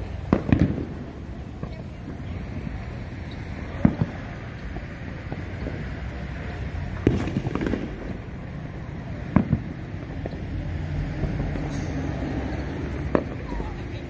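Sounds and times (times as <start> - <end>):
firework pops: 0.0 - 10.6, 12.9 - 13.9
firework bangs: 0.0 - 14.0.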